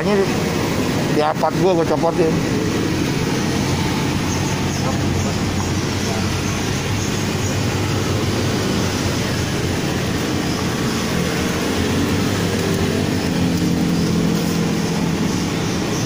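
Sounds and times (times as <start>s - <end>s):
traffic rumble: 0.0s - 16.0s
droning engine tone: 1.8s - 16.0s.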